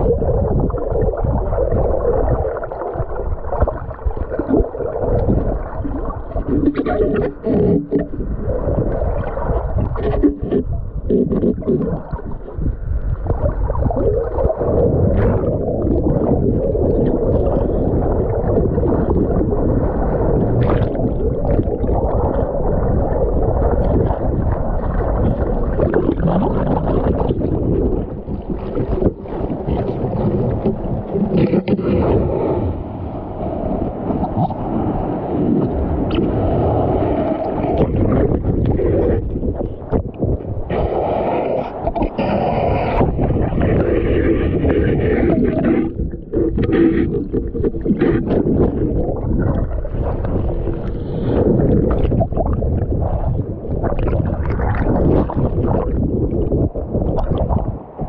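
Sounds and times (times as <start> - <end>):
muffled underwater surf rumble: 0.0 - 58.0.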